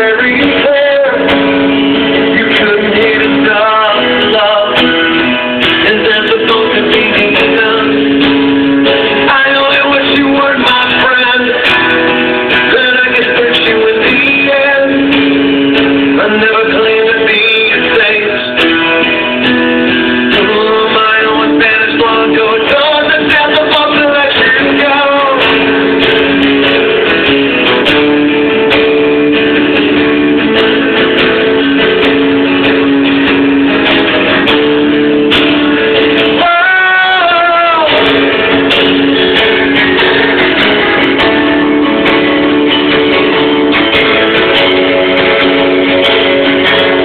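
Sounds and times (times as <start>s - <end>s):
rock ballad guitar strumming: 0.0s - 47.0s.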